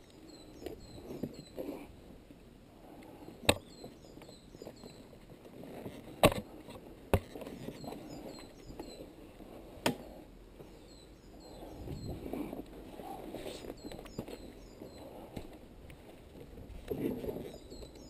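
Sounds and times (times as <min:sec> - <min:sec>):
rustle and scrape on ground: 0:02.8 - 0:10.8, 0:11.4 - 0:18.0.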